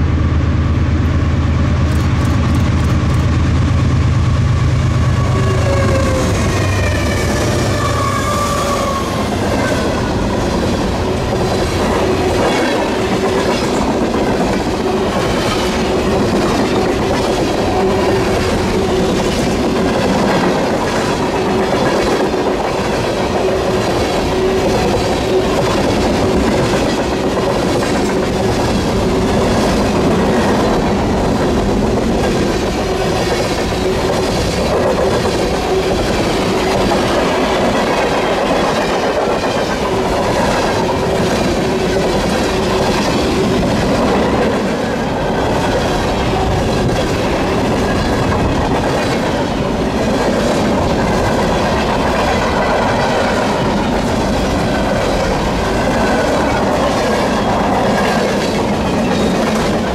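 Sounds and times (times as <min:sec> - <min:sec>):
train wheels clicking over rail joints: 0:01.8 - 0:03.4, 0:06.0 - 0:59.9.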